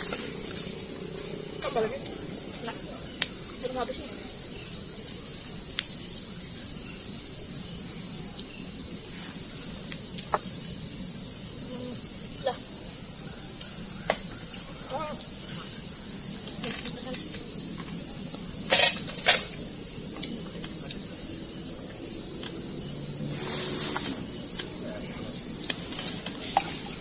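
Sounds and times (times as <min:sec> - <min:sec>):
night insects chorus: 0:00.0 - 0:27.0.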